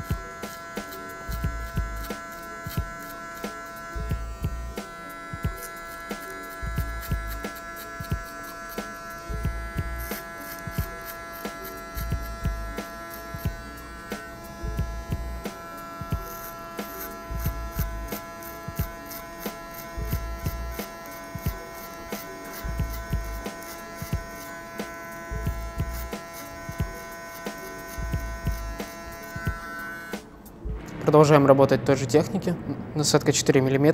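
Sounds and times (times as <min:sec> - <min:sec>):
electric hair clipper humming: 0:00.0 - 0:30.7.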